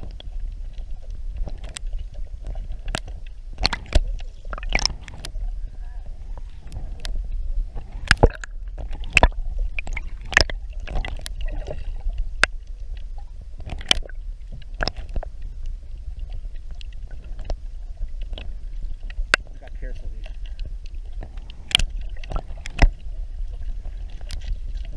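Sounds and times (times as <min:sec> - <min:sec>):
water splashing beside a boat: 0:00.0 - 0:24.9
wind rumble on microphone: 0:00.0 - 0:24.9.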